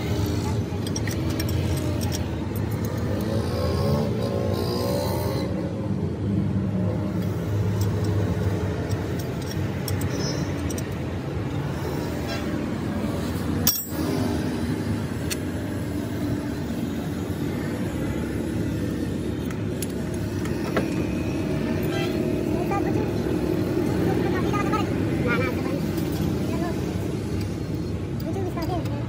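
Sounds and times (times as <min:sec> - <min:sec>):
steady background rumble: 0:00.0 - 0:29.0.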